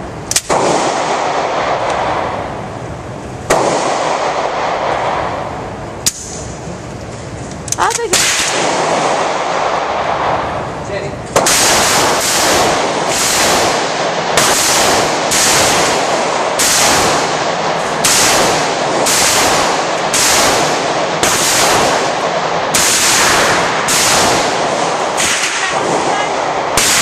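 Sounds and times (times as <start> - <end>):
gunshots with echo: 0.4 - 2.4, 3.5 - 5.6, 8.1 - 10.7, 11.3 - 27.0.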